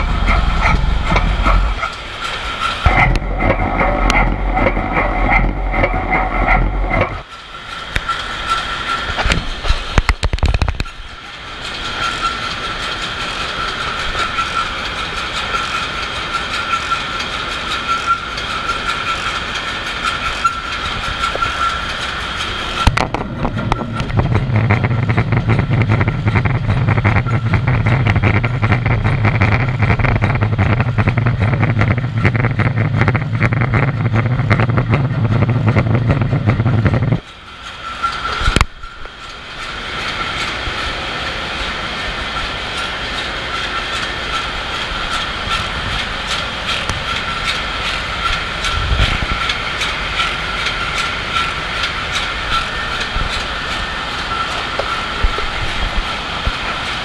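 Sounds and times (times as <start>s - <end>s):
high mechanical whine: 0.0s - 57.0s
marine diesel engine clatter: 0.0s - 57.0s.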